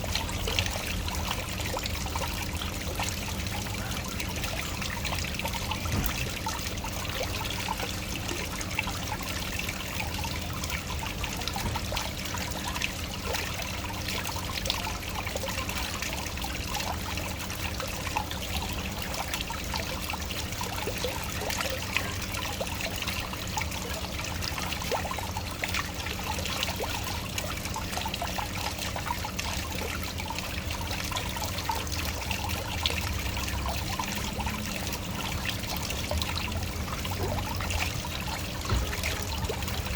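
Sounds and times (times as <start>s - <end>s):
small water splashes: 0.0s - 39.9s.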